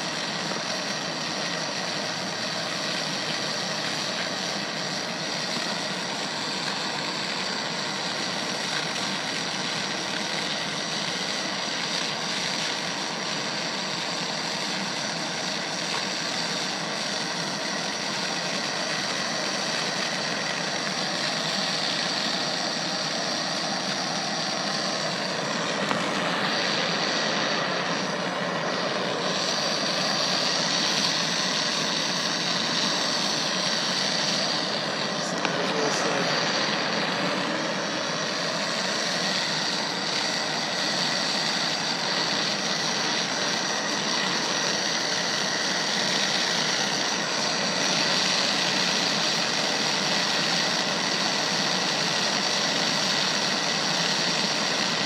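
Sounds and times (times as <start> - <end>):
gas torch hissing: 0.0 - 55.0.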